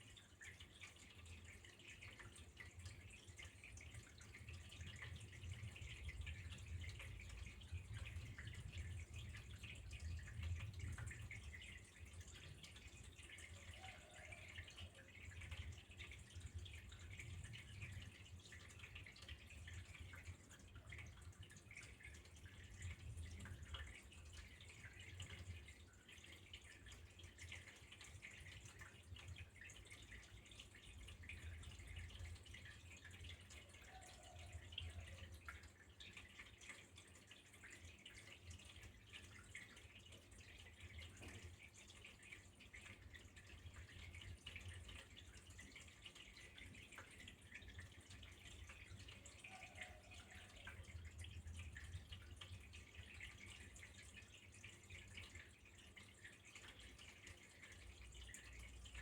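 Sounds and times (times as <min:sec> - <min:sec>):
faint trickle of flowing water: 0:00.0 - 0:59.0
water dripping: 0:00.0 - 0:59.0.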